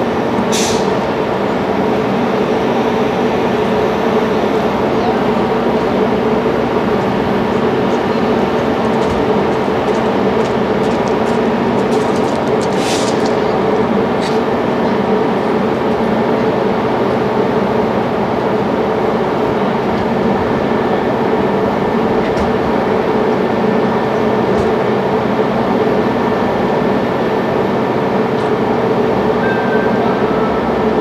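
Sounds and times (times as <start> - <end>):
train mechanical drone: 0.0 - 31.0.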